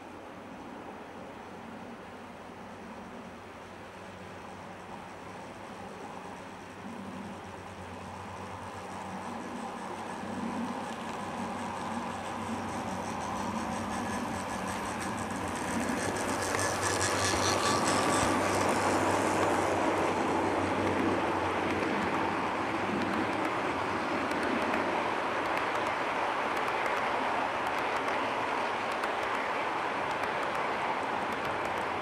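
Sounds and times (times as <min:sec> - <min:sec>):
model train motors: 0:02.8 - 0:32.0
train wheels rolling on track: 0:03.2 - 0:32.0.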